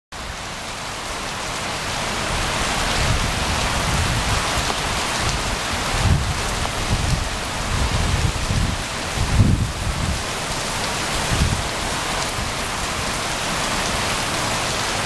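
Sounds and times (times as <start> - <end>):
heavy rain on pavement: 0.1 - 15.0.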